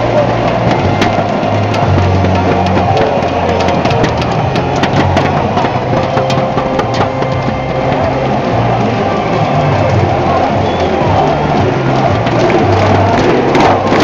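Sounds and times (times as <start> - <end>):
crowd noise: 0.0 - 14.0
loud music with bass line: 0.0 - 14.0
sharp claps: 0.0 - 14.0.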